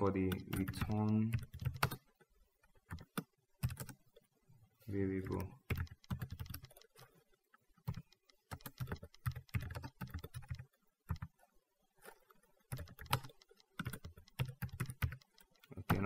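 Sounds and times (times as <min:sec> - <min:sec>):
keyboard typing: 0:00.0 - 0:04.3, 0:05.1 - 0:16.0.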